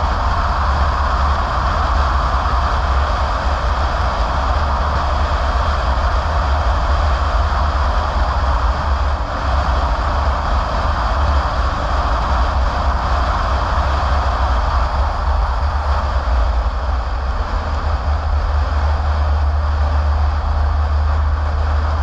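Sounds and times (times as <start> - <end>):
car driving rumble: 0.0 - 22.0
road noise hiss: 0.0 - 22.0.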